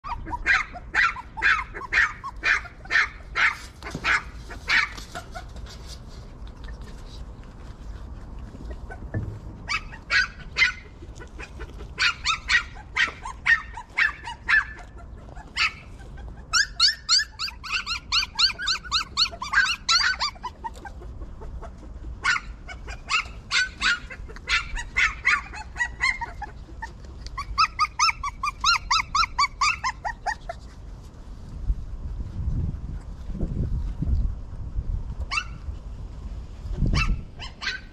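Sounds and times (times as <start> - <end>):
puppies whimpering and yelping: 0.0 - 30.9, 35.3 - 35.7, 36.9 - 37.9.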